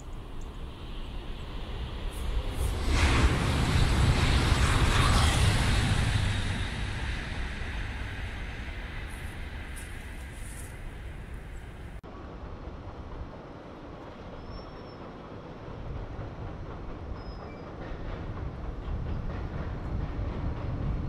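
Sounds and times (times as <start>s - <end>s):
passing train rumble: 0.0s - 21.0s.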